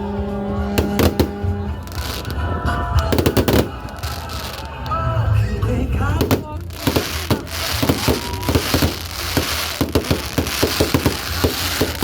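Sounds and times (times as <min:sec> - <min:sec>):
fireworks pops and bangs: 0:00.7 - 0:12.0
fireworks crackling hiss: 0:00.8 - 0:05.2, 0:06.2 - 0:12.0.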